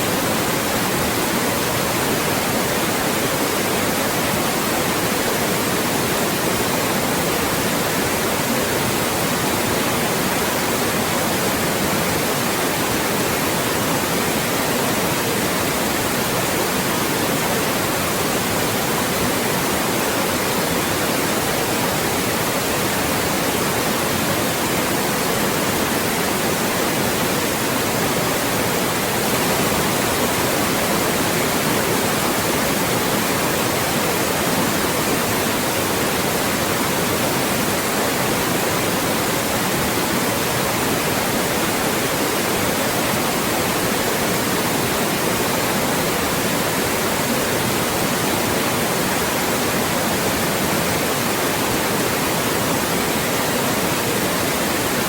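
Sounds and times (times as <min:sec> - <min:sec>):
loud white noise hiss: 0:00.0 - 0:55.0.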